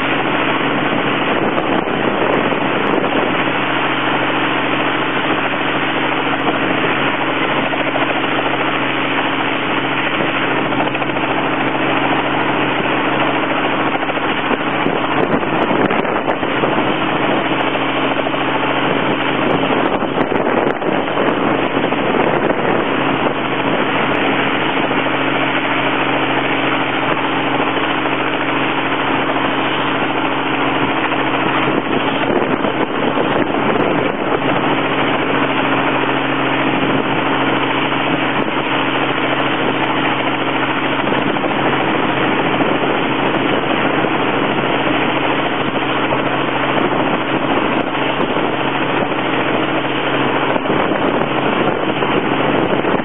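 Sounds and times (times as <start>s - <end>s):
helicopter drone: 0.0s - 53.0s.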